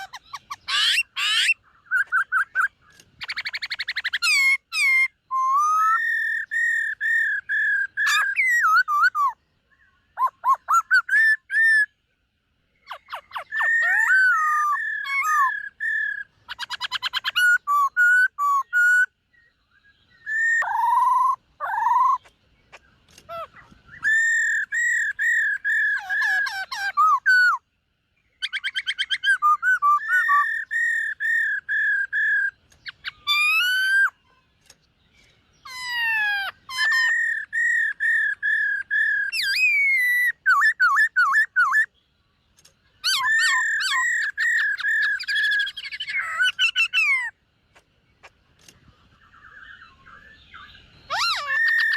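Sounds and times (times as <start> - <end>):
bird singing whistles and trills: 0.0 - 51.9.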